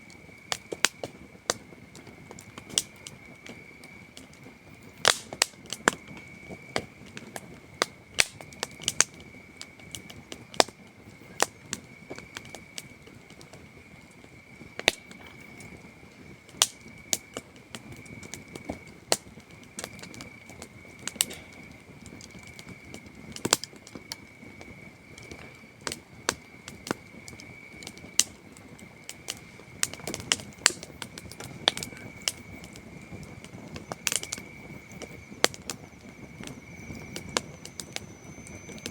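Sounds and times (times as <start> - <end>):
campfire crackling and popping: 0.0 - 38.9
crickets trilling: 0.0 - 38.9.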